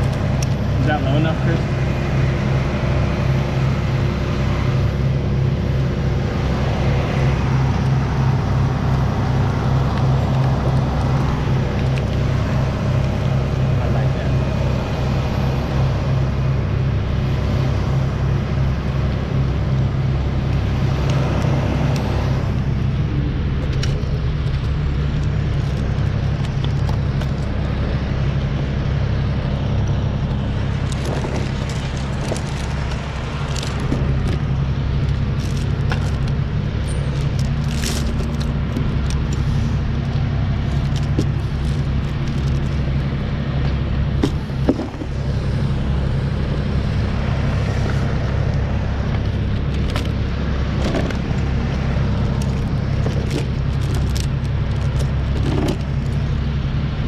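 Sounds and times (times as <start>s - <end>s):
truck engine running steadily: 0.0s - 57.0s.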